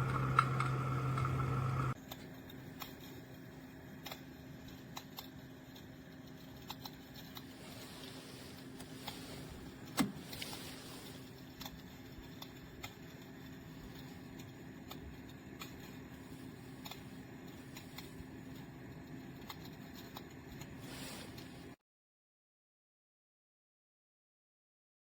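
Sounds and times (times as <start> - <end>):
heater fan hum: 0.0 - 21.8.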